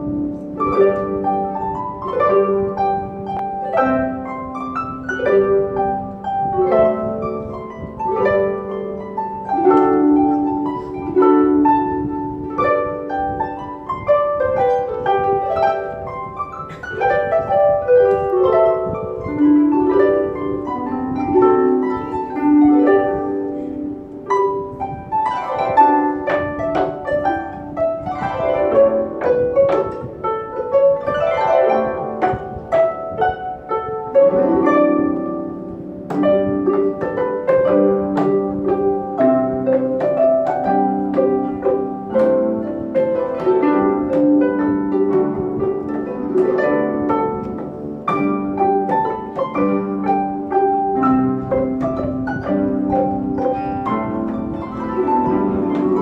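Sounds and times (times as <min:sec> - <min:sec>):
harp ensemble playing: 0:00.0 - 0:56.0.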